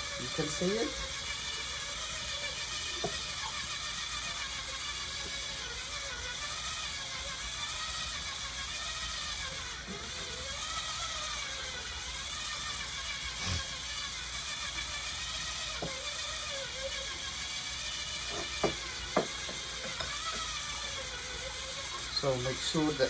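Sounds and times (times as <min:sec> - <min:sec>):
electric whisk motor whirring: 0:00.0 - 0:23.0.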